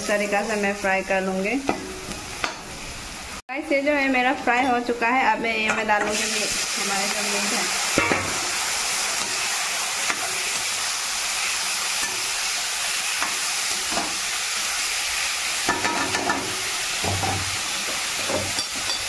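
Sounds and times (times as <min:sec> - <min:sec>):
meat sizzling in hot oil: 0:00.0 - 0:03.4, 0:05.9 - 0:19.0.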